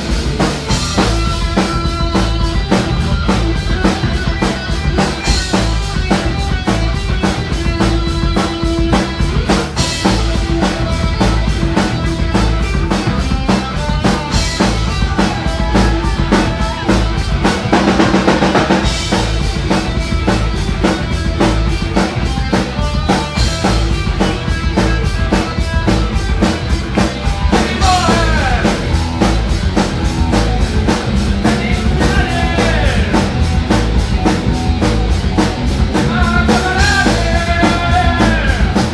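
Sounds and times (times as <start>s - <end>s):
drum kit beat: 0.0s - 38.9s.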